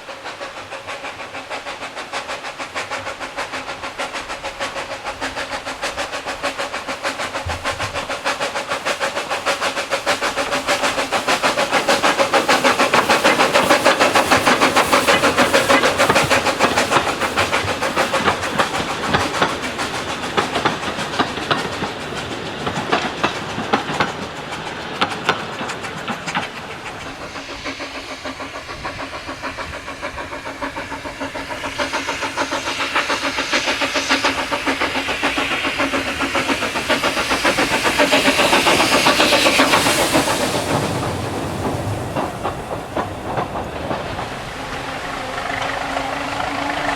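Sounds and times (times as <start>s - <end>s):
train running: 0.0s - 46.9s.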